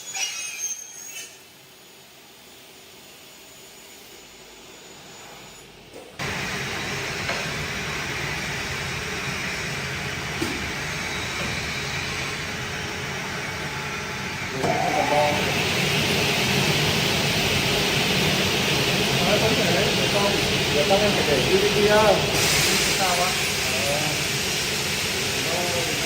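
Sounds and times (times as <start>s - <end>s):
cutting saw whirring: 0.0s - 26.0s.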